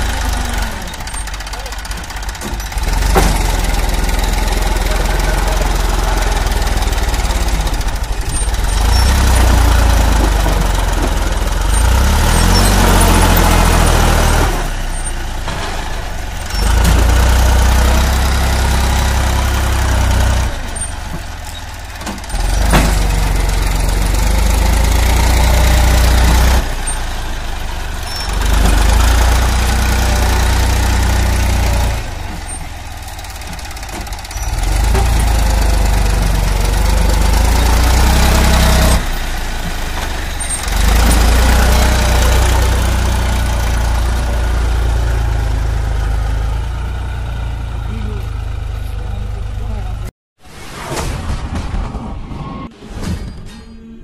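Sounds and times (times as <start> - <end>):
tractor diesel engine under load: 0.0 - 50.1.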